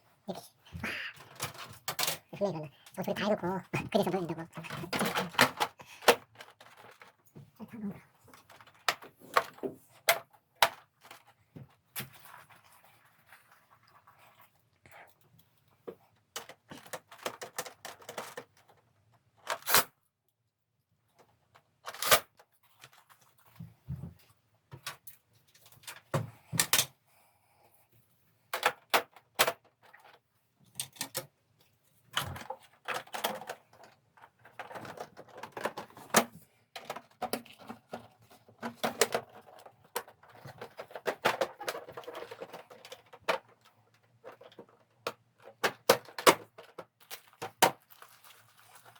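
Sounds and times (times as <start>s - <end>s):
plastic parts clicking and knocking: 0.5s - 7.5s, 8.2s - 12.5s, 15.8s - 19.9s, 21.2s - 27.0s, 28.5s - 31.4s, 32.1s - 48.0s.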